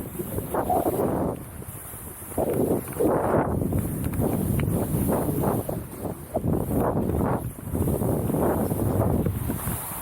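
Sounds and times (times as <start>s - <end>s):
skis scraping through snow: 0.0s - 10.0s
wind buffeting microphone: 0.0s - 10.0s.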